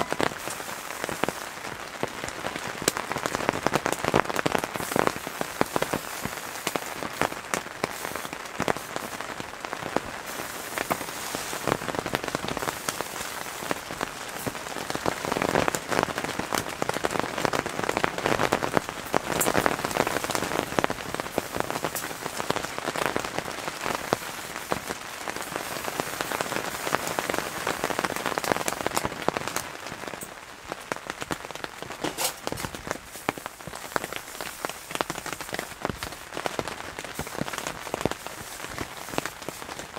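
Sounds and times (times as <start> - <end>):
rain pattering on tent: 0.0 - 39.9.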